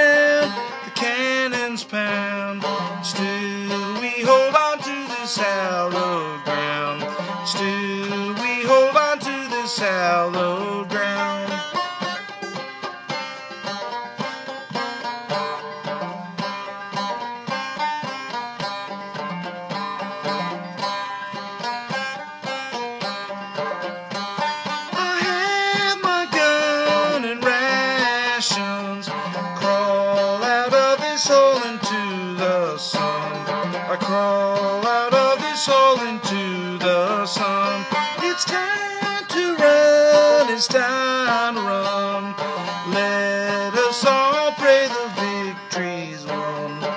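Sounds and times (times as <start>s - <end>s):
banjo playing: 0.0s - 46.9s.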